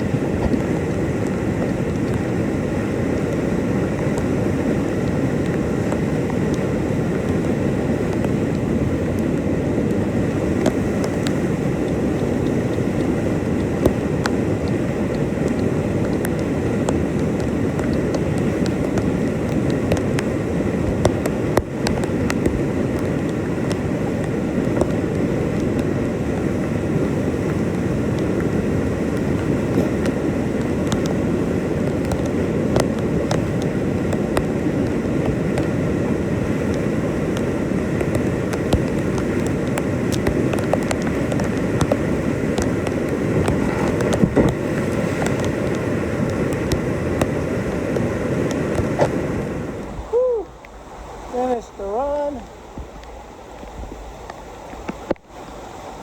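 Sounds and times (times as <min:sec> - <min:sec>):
whitewater rapids rushing: 0:00.0 - 0:56.0.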